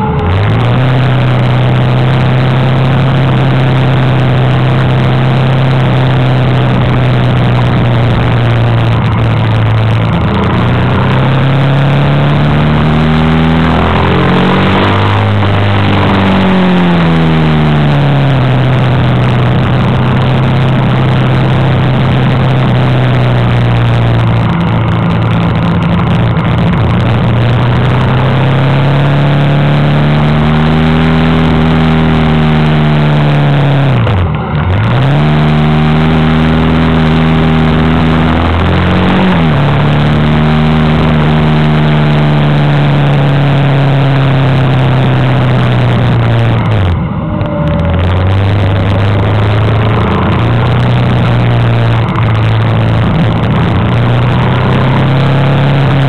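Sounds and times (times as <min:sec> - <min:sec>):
wind rush: 0:00.0 - 0:29.5, 0:33.6 - 0:56.0
motorcycle engine running: 0:00.0 - 0:56.0.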